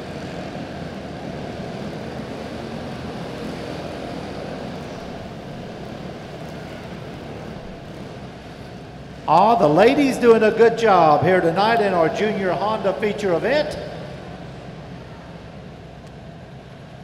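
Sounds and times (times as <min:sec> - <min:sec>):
race car engines buzzing: 0:00.0 - 0:17.0.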